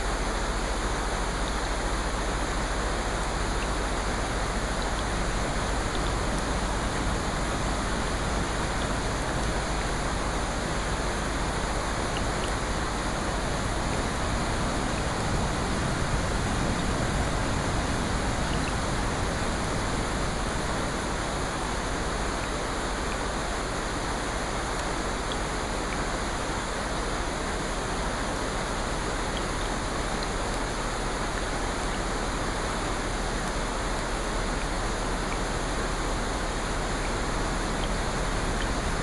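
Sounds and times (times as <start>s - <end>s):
faint raindrop ticks: 0.0s - 39.0s
rain falling: 0.0s - 39.0s.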